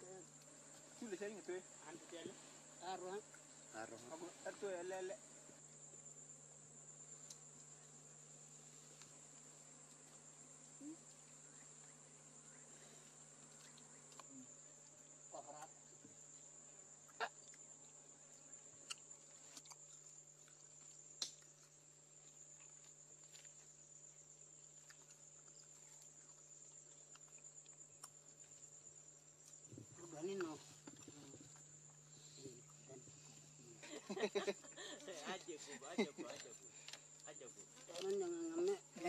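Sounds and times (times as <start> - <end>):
insects chirring: 0.0 - 39.0.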